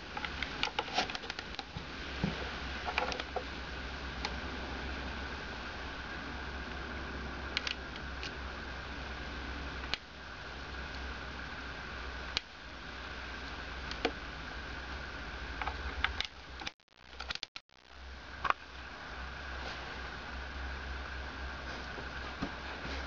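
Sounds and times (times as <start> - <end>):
steady hum with high whine: 0.0 - 23.0.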